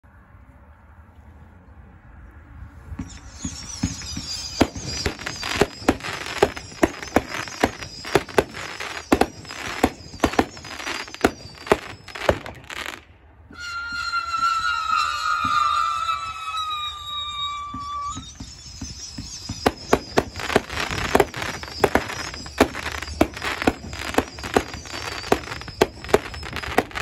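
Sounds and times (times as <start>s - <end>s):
firework bangs: 3.0s - 27.0s
high firework whistling: 3.0s - 27.0s.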